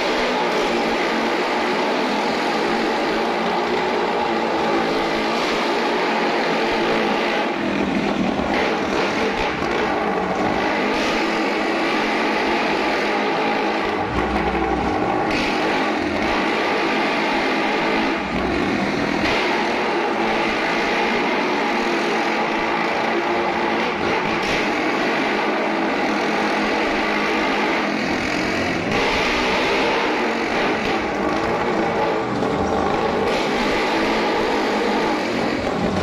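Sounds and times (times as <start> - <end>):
motorcycle engines droning: 0.0 - 36.0.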